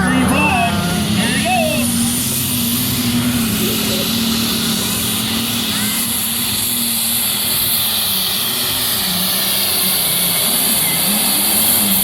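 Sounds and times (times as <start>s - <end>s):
engine running under full load: 0.0s - 12.0s.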